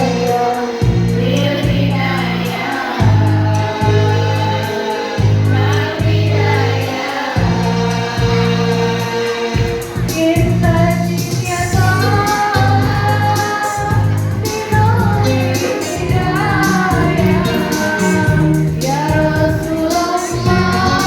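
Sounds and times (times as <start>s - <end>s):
choir singing in unison: 0.0s - 10.0s, 11.5s - 21.0s
instrumental accompaniment: 0.0s - 21.0s.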